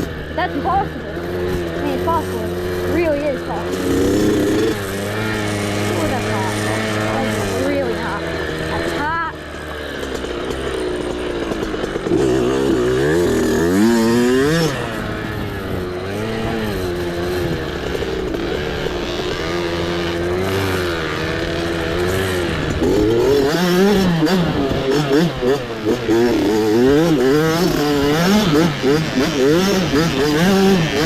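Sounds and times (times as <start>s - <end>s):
mini bike engine revving: 0.0s - 31.0s.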